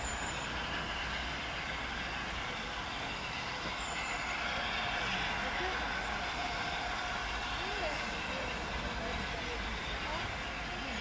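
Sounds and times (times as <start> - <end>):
steam locomotive rumble and hiss: 0.0 - 11.0.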